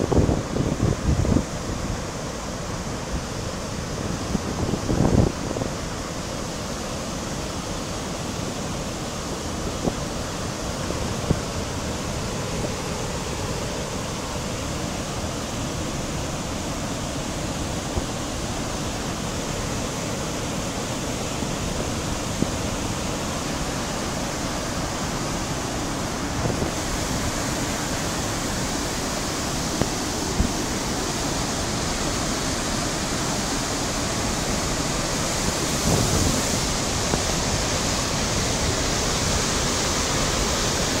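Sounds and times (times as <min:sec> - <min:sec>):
water rushing through spillway: 0:00.0 - 0:41.0.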